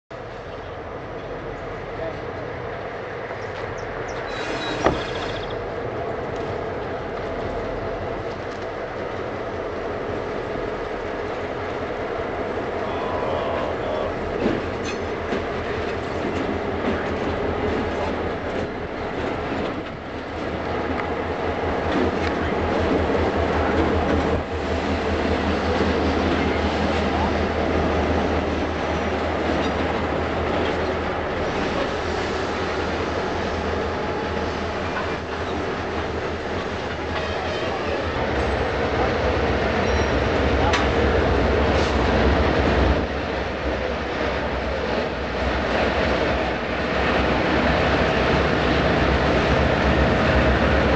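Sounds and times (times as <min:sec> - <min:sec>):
diesel locomotives droning: 0:00.1 - 0:50.9
train wheels on rail: 0:00.2 - 0:50.9.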